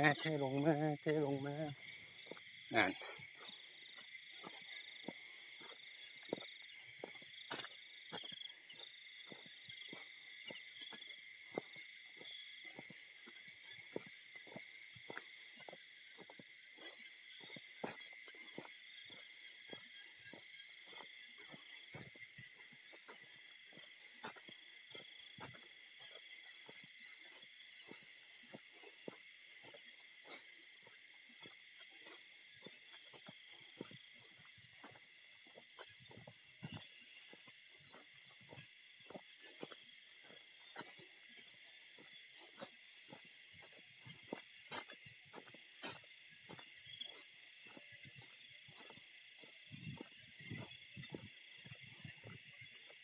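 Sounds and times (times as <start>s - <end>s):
crickets droning: 0.0s - 53.0s
rapid pulsing insect trill: 0.0s - 53.0s.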